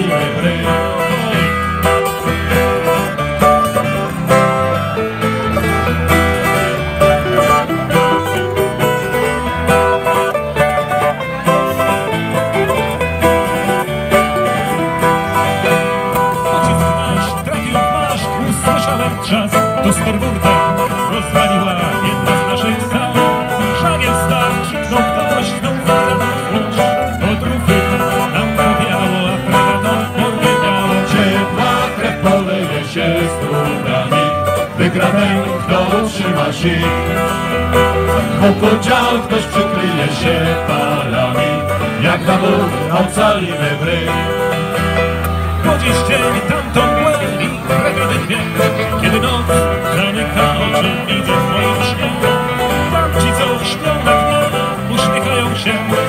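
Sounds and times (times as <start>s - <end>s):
folk band playing instrumental: 0.0s - 56.0s.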